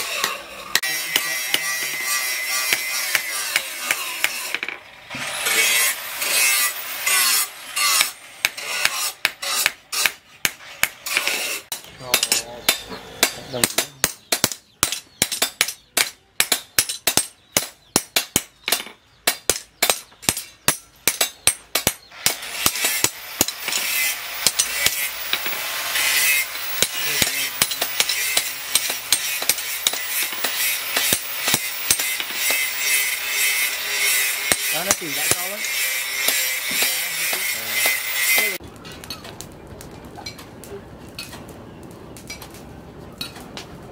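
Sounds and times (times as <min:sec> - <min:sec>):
hammer striking metal on anvil: 0:00.0 - 0:04.8, 0:06.2 - 0:38.6.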